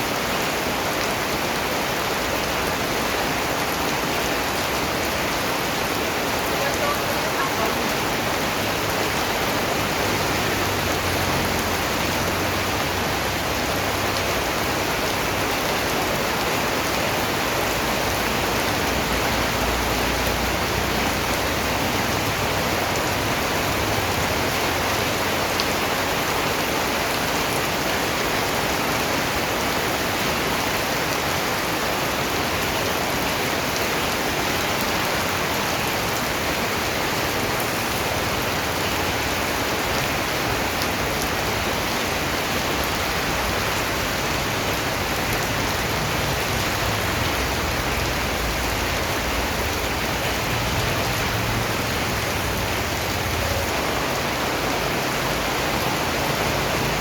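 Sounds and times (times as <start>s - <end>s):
rain pattering on surfaces: 0.0s - 57.0s.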